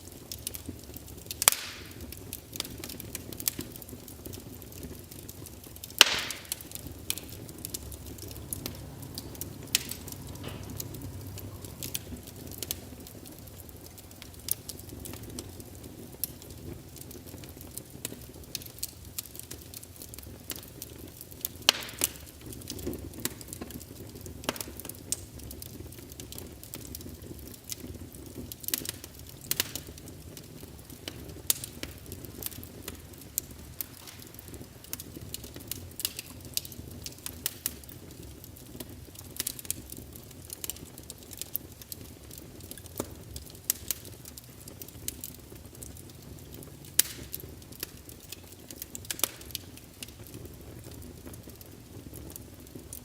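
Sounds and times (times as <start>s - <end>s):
wood fire burning: 0.0s - 53.0s.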